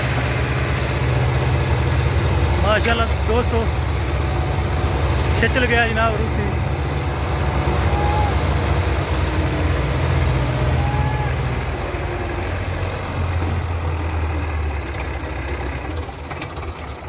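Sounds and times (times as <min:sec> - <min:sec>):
tractor diesel engines under load: 0:00.0 - 0:17.0.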